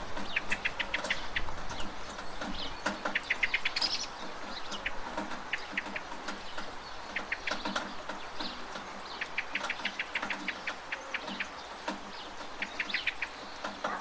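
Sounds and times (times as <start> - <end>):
steady rain: 0.0 - 14.0
water dripping from gutter: 0.0 - 14.0.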